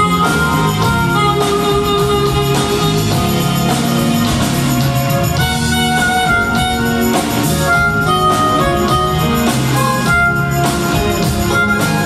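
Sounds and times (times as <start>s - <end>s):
harmonica melody: 0.0s - 12.0s
live band playing: 0.0s - 12.0s.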